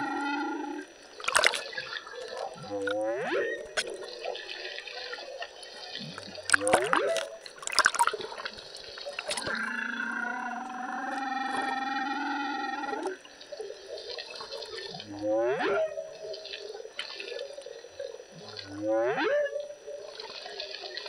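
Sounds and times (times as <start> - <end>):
humpback whale song: 0.0 - 21.0
splashy water crackle: 0.9 - 11.8, 12.7 - 18.9, 19.8 - 21.0.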